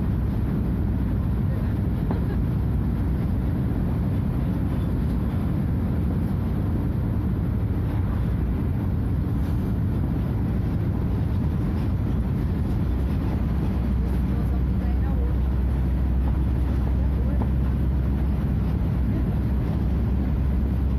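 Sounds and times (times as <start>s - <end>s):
diesel bus engine droning: 0.0s - 20.9s.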